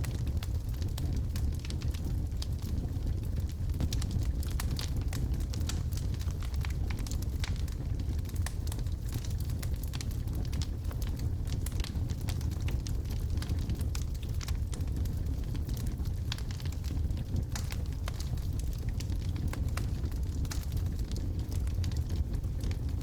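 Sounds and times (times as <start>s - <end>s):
fire crackling and popping: 0.0s - 23.0s
flames rushing: 0.0s - 23.0s.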